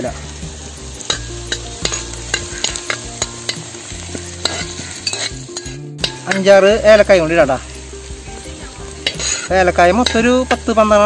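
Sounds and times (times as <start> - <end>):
spices sizzling in hot oil: 0.0 - 11.0
metal spatula scraping a pan: 0.1 - 10.8.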